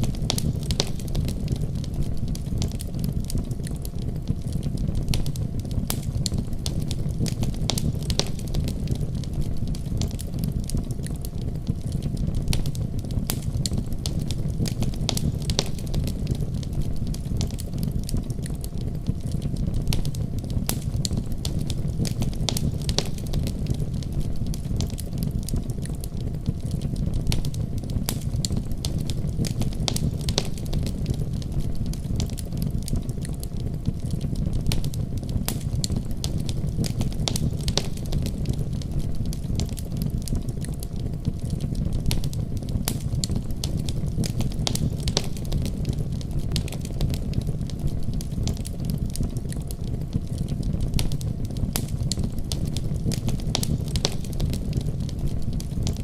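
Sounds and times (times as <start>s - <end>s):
fire crackling and popping: 0.0s - 56.0s
low fire rumble: 0.0s - 56.0s.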